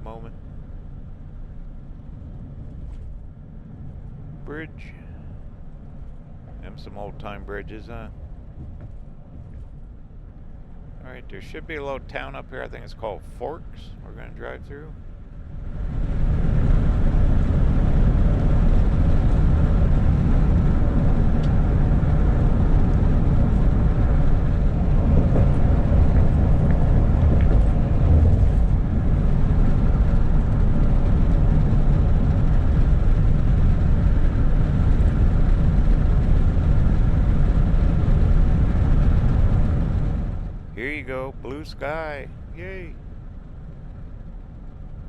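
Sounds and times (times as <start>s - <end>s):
vehicle road and engine rumble: 0.0s - 45.0s.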